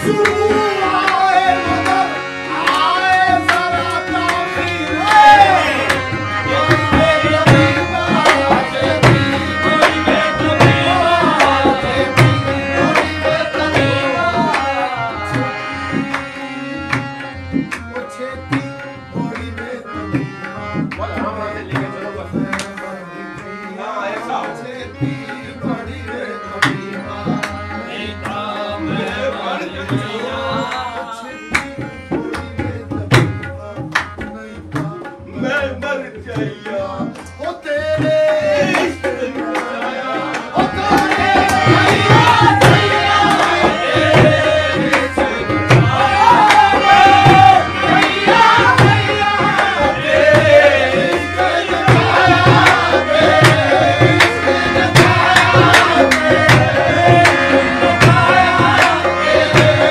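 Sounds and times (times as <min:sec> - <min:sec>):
harmonium melody: 0:00.0 - 0:59.9
tabla drumming: 0:00.0 - 0:59.9.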